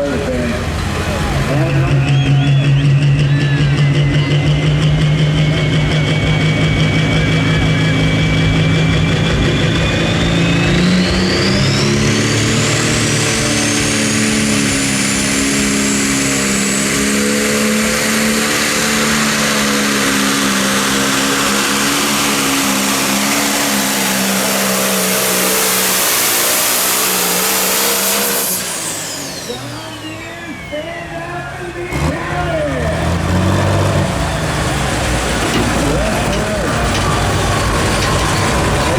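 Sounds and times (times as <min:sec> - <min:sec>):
high turbo whine: 0:00.0 - 0:38.9
tractor diesel engine under load: 0:00.0 - 0:38.9.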